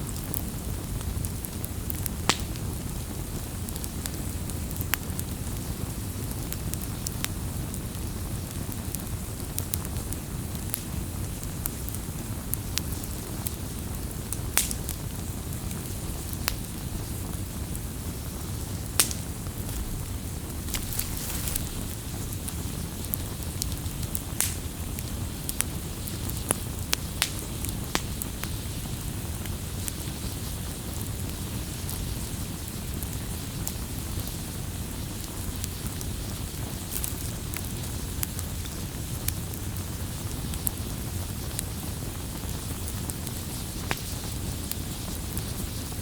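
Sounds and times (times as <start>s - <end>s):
campfire flames rushing: 0.0s - 46.0s
fire crackling and popping: 0.0s - 46.0s.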